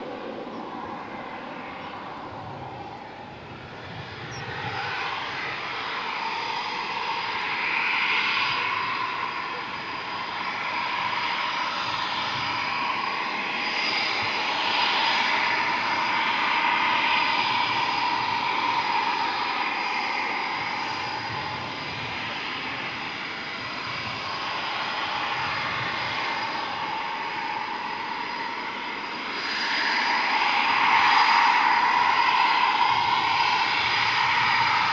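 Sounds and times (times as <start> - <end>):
jet engine rush and whine: 0.0 - 34.9.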